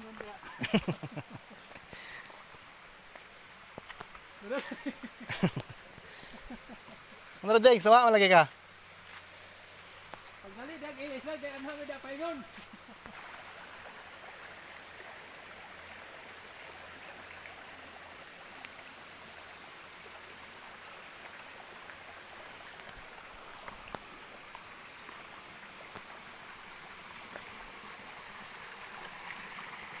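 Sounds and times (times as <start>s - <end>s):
river flowing over stones: 0.0s - 30.0s.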